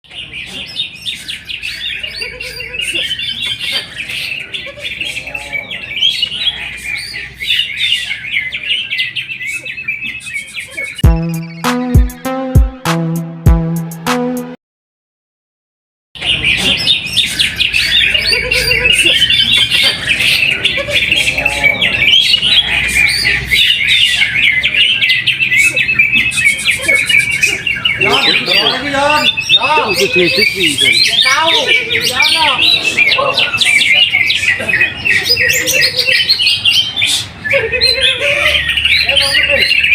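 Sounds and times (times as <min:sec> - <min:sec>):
bird singing chirps and warbles: 0:00.0 - 0:11.7, 0:16.2 - 0:39.9.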